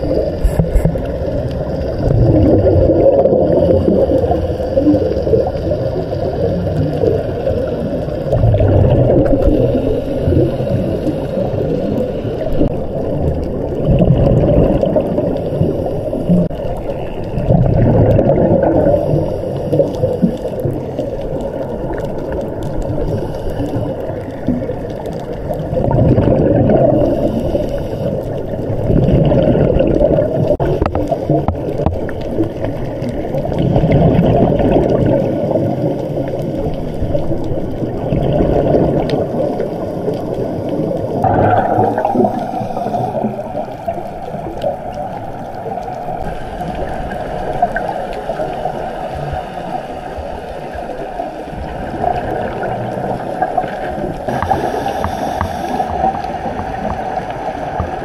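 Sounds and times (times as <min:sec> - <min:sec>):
muffled underwater rushing water: 0:00.0 - 0:58.0.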